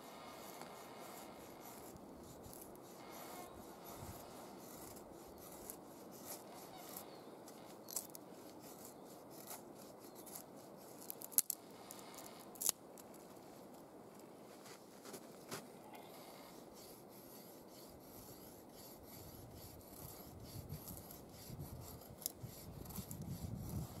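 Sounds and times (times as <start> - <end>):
knife scraping wooden stick: 0.0 - 12.8, 16.3 - 24.0.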